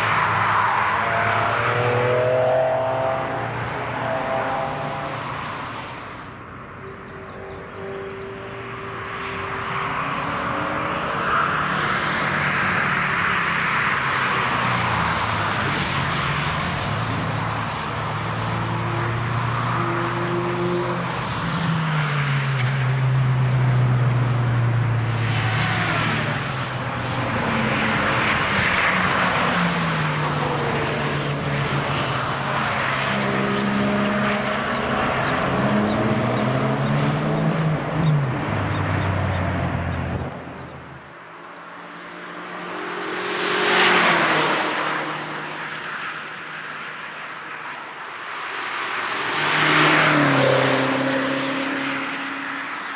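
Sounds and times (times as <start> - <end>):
rush of tyres and wind: 0.0 - 7.4, 9.7 - 52.9
racing cars driving past: 0.0 - 52.9.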